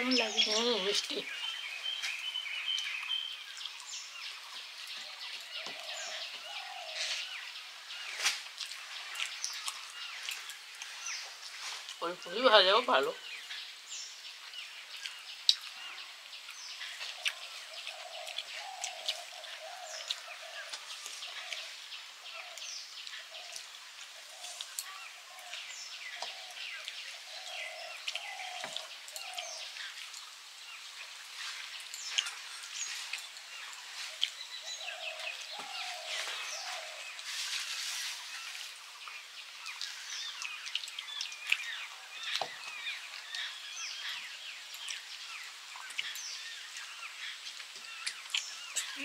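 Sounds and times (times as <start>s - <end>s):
low warbling bird calls: 0.0s - 49.0s
small birds chirping: 0.0s - 49.0s.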